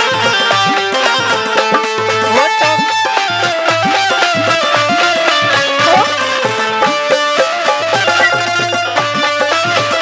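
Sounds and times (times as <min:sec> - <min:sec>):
dholak drum beat: 0:00.0 - 0:10.0
sustained folk melody: 0:00.0 - 0:10.0.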